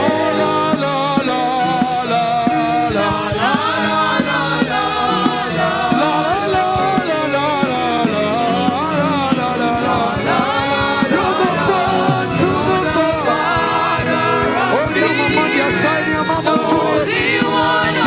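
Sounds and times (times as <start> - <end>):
band with drum beat: 0.0 - 18.0
person singing gospel: 0.0 - 18.0.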